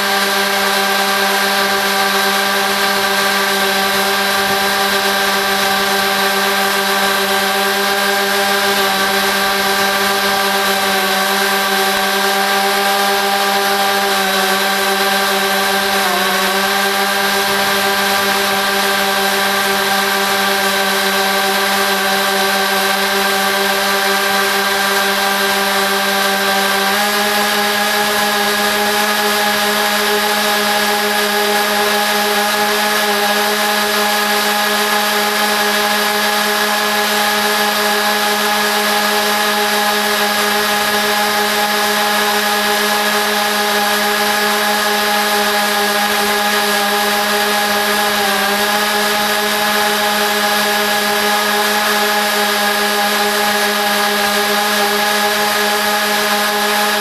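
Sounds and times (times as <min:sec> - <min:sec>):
high-pitched lawn mower drone: 0:00.0 - 0:57.0.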